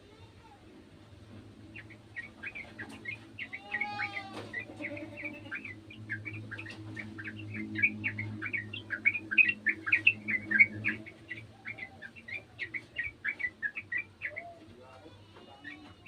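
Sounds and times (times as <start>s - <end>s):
low steady hum: 0.0s - 16.0s
bird singing chirping notes: 1.6s - 16.0s.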